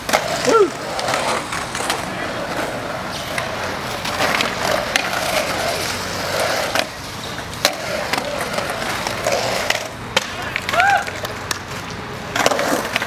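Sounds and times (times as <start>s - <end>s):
skateboard clacks: 0.0s - 13.0s
skateboard wheels rolling on concrete: 0.0s - 13.0s.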